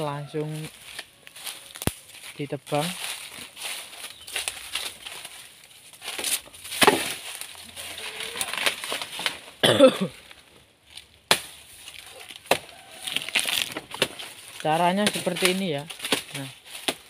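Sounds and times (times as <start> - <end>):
dry leaves crackling and rustling: 0.0 - 17.0
sharp cracks of leaves: 0.4 - 17.0.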